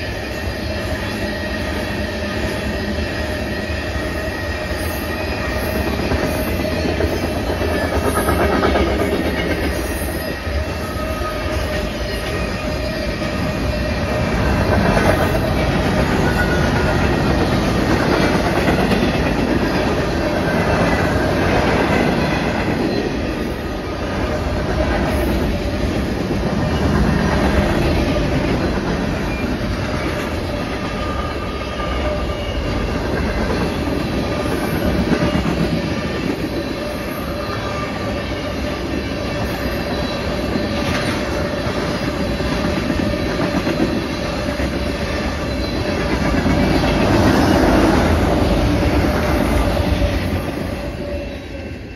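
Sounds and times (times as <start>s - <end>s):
freight train wheels rolling on rails: 0.0s - 51.9s.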